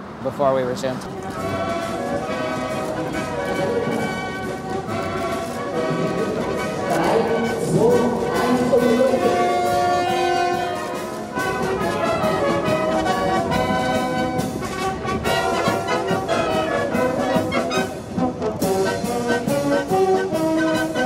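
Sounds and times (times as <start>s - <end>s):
wind band playing: 0.1s - 21.0s.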